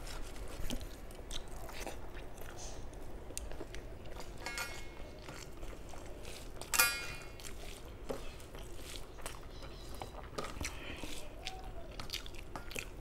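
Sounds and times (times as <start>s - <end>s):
chewing mouth sounds: 0.6s - 13.0s.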